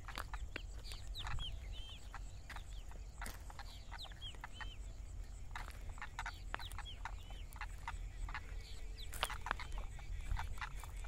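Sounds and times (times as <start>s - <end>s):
birds calling and chirping: 0.0s - 11.0s.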